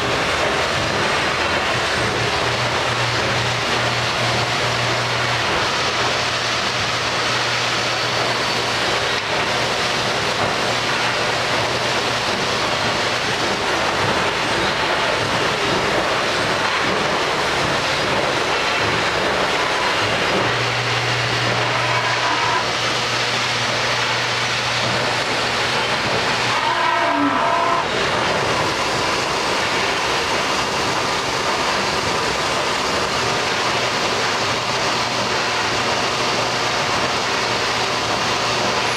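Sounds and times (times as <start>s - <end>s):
lathe machining noise: 0.0s - 38.9s.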